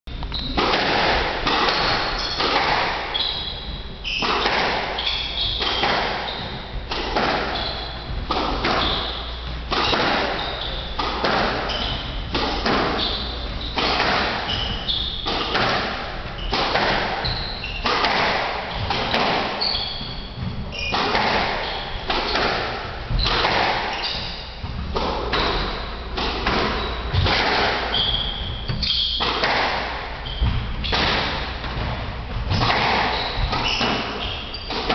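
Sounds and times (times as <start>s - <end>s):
sneakers squeaking on hardwood: 0.2s - 34.9s
squash ball hitting racquets and walls: 0.2s - 34.9s.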